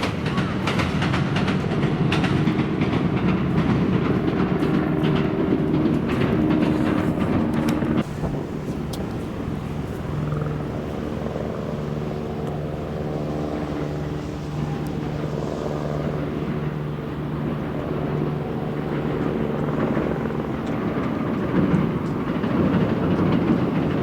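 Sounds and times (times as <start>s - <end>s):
electric train droning: 0.0s - 24.0s.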